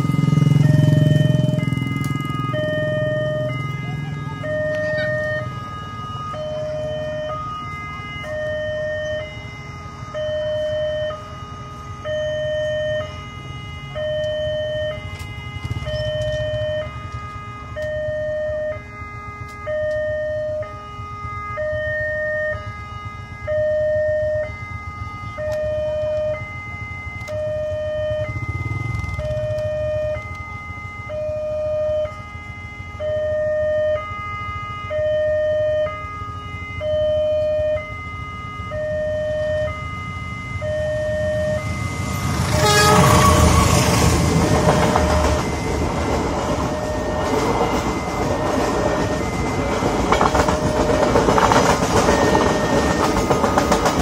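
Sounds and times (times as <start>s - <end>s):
level crossing alarm pulsing tone: 0.0s - 54.0s.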